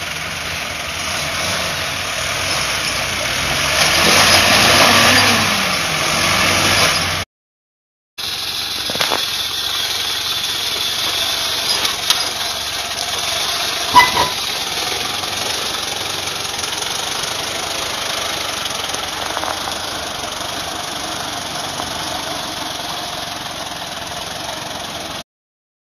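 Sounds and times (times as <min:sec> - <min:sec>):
diesel engine running: 0:00.0 - 0:07.2, 0:08.2 - 0:25.2.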